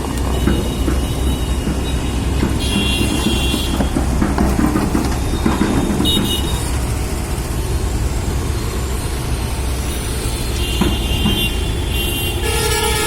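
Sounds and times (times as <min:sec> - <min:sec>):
heavy machine engine rumbling: 0:00.0 - 0:13.0.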